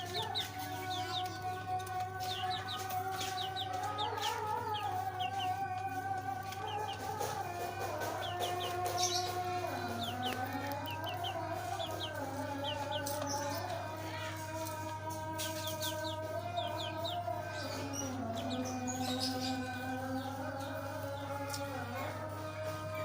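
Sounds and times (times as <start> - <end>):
pet birds chirping: 0.0 - 14.2, 15.3 - 21.2.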